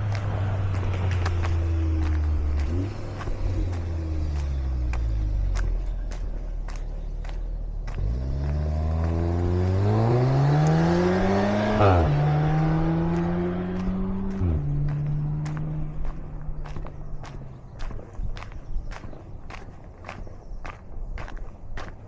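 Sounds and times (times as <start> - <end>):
vehicle engine accelerating: 0.0 - 20.8
footsteps on a trail: 0.0 - 22.0.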